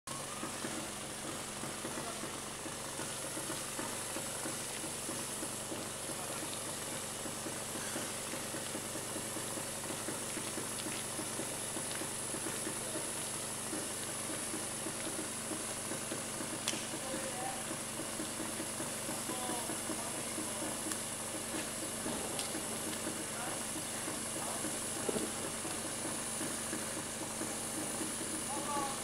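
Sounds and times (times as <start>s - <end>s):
outdoor background hiss: 0.2s - 29.0s.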